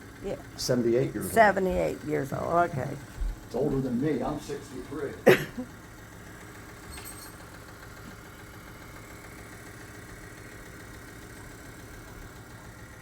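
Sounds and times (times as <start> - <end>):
sewing machine humming: 0.0 - 13.0.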